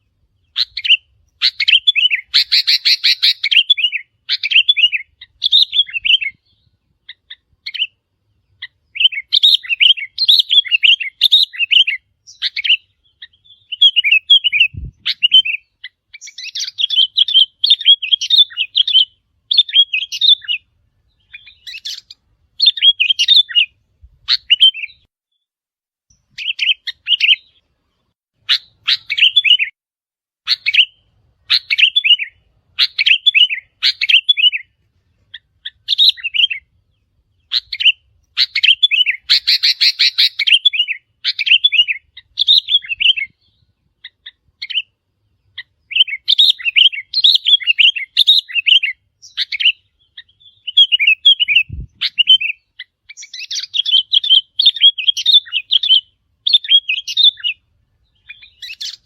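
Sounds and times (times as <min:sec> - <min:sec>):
bird chirping song: 0:00.0 - 0:25.5, 0:26.1 - 0:29.8, 0:30.4 - 0:59.0.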